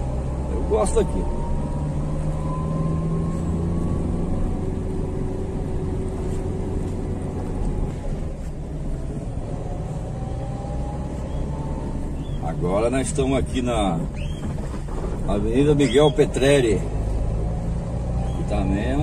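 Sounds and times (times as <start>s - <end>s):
vehicle engine rumble from cab: 0.0s - 19.0s.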